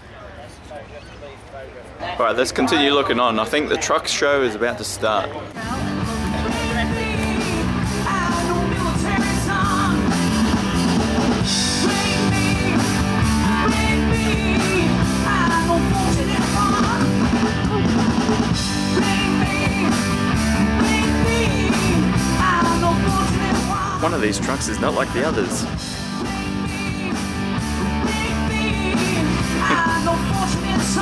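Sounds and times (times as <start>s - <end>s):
rock music with singer: 5.6s - 31.0s.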